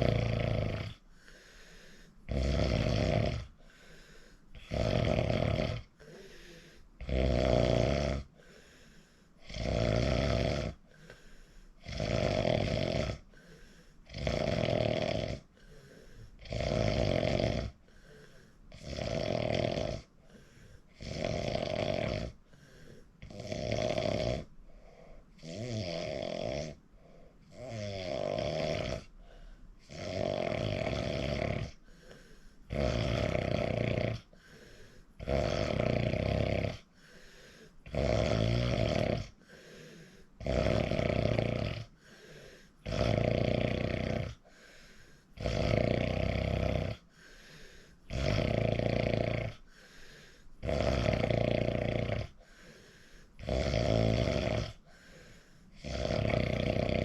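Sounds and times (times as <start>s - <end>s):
person snoring: 0.0s - 57.0s.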